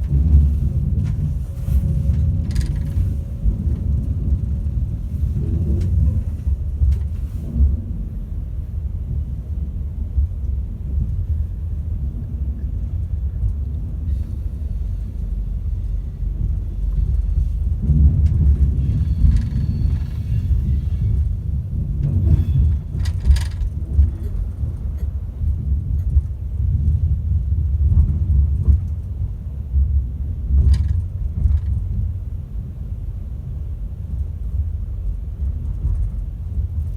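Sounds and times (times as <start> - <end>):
train motors and wheels rumbling: 0.0 - 36.9.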